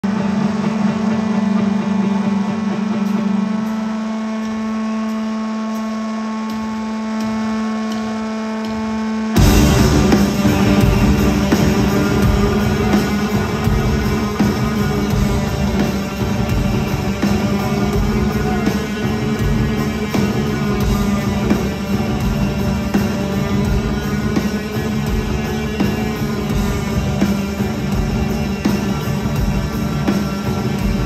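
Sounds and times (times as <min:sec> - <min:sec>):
loud full wall of sound: 0:00.0 - 0:31.0
sustained drone from sound system: 0:00.0 - 0:31.0.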